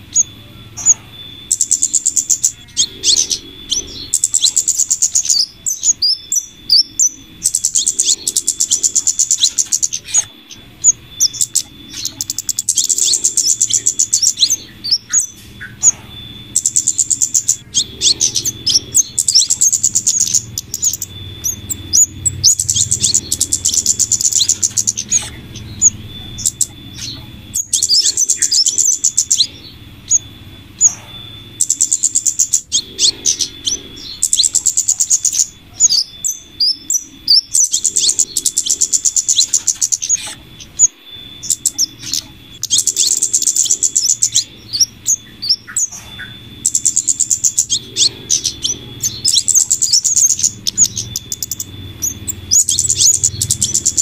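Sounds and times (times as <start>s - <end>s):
high-pitched bird chattering trills: 0.0s - 54.0s
low hum: 0.0s - 54.0s.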